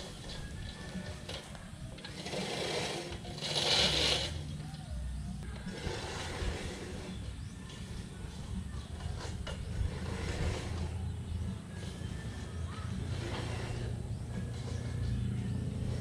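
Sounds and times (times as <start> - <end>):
reel mower blades spinning: 0.0 - 16.0.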